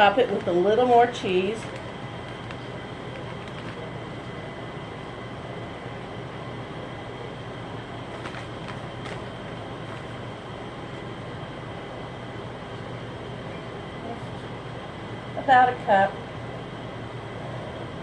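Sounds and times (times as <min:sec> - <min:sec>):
kitchen appliance humming: 0:00.0 - 0:18.0.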